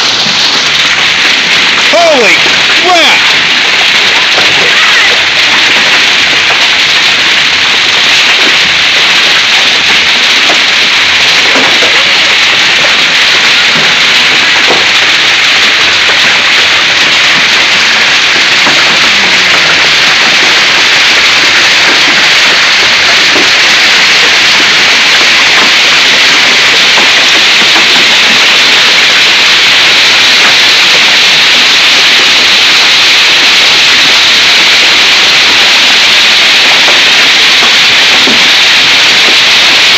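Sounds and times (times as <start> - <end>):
heavy hail and rain pelting: 0.0 - 39.9.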